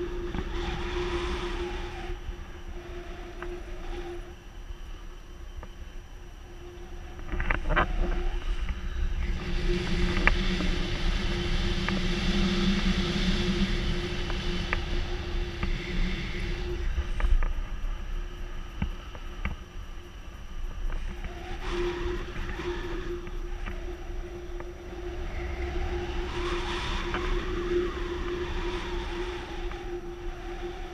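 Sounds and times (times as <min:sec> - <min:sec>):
faint steady hum: 0:00.0 - 0:30.9
wind buffeting microphone: 0:00.0 - 0:30.9.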